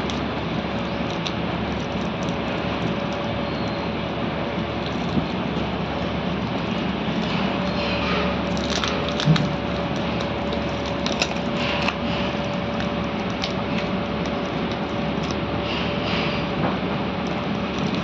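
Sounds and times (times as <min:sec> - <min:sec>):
packing tape peeling: 0:00.0 - 0:18.0
paper wrapping crinkling: 0:00.0 - 0:18.0
steady hum: 0:00.0 - 0:18.0.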